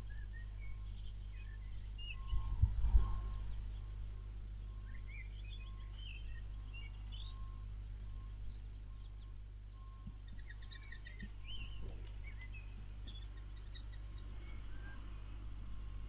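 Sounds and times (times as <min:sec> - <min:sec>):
bird trill: 0:00.0 - 0:16.0
birds chirping: 0:00.0 - 0:16.0
steady low hum: 0:00.0 - 0:16.0.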